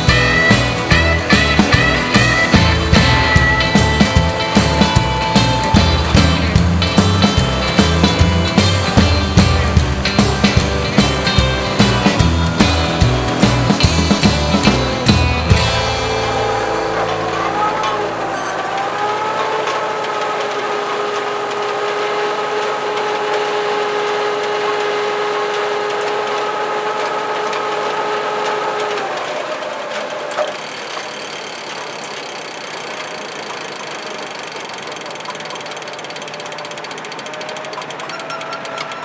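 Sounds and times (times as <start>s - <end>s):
steady whine: 0.0s - 39.0s
tractor engine with machinery: 0.0s - 39.0s.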